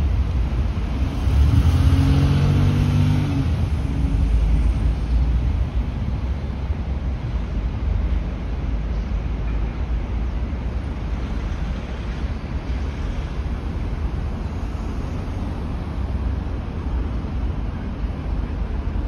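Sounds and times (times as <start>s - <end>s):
road traffic hiss: 0.0s - 19.0s.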